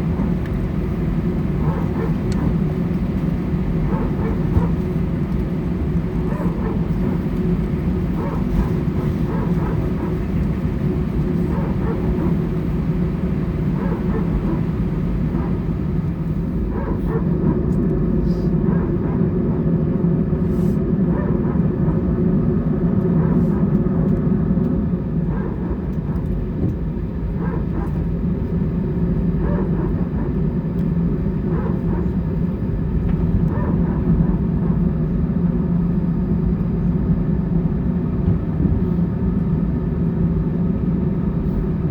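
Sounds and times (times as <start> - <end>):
jet engines rumbling inside cabin: 0.0 - 41.9.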